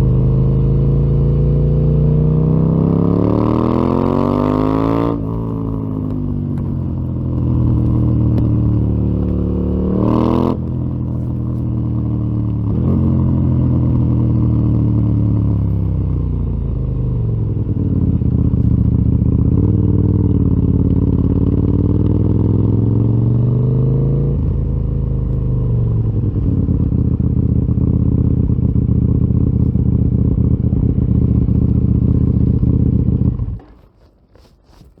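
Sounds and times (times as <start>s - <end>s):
motorcycle engine revving and idling: 0.0s - 34.9s.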